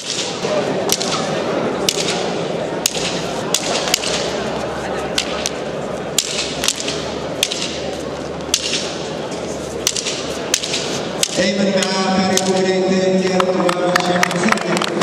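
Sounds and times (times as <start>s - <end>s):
fighting sticks clacking: 0.0s - 4.5s, 5.1s - 12.6s
crowd murmur: 0.0s - 15.0s.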